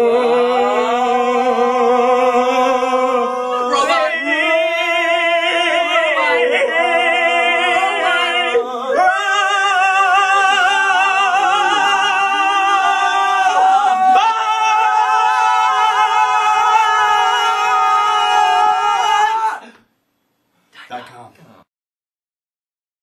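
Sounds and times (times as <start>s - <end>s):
choir singing chords: 0.0s - 19.6s.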